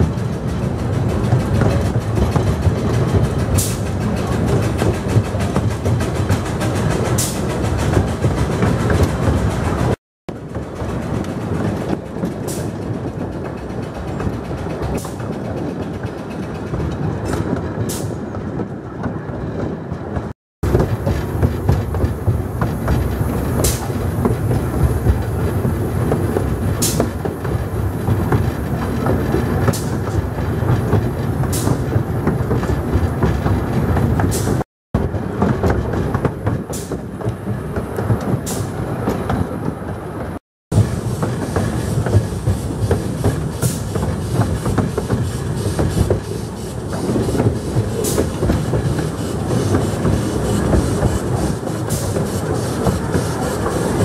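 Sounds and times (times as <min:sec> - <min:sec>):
miniature steam train rumbling: 0:00.0 - 0:54.0.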